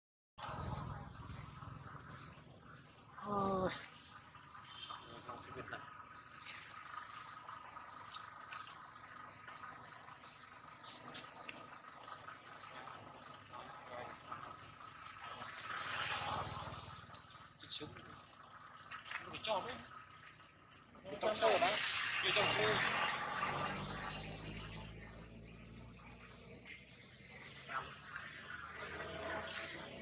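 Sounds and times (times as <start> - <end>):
insects buzzing drone: 0.4 - 30.0.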